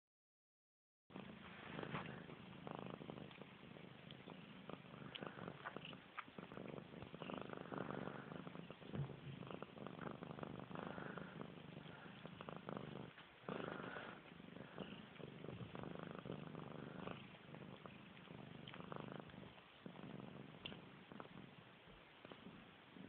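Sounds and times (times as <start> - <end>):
cat purring: 1.1 - 23.0.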